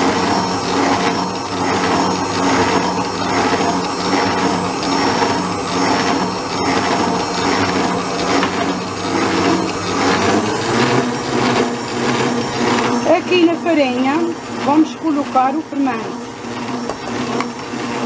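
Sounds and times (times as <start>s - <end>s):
stand mixer motor hum: 0.0s - 18.0s
beater swishing in bowl: 0.8s - 17.2s.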